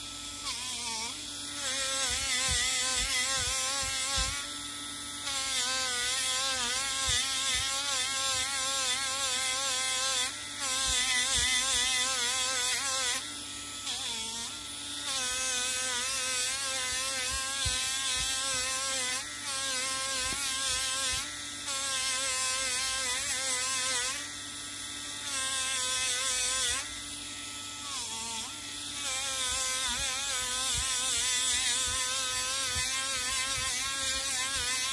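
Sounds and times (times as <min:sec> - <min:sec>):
rotary tool motor whine: 0:00.0 - 0:34.9.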